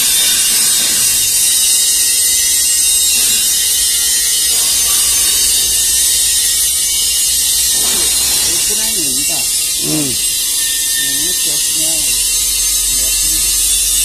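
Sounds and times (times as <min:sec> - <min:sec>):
spray dryer machine hissing: 0:02.6 - 0:14.0.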